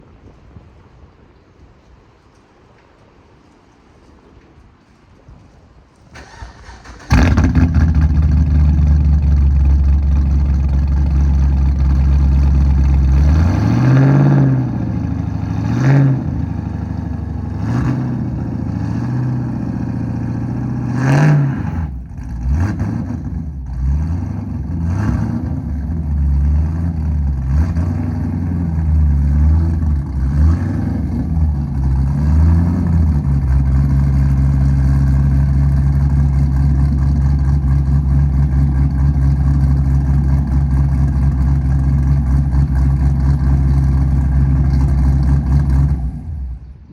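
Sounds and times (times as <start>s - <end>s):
car engine starting and idling: 6.1s - 46.9s
car engine revving: 6.2s - 46.6s.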